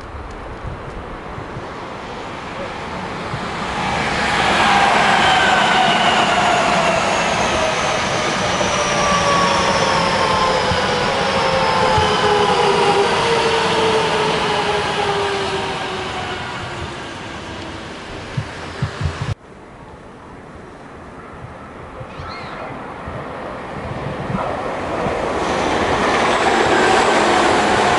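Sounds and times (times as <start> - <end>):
wheels rumbling on rail: 0.0 - 19.4, 23.0 - 27.9.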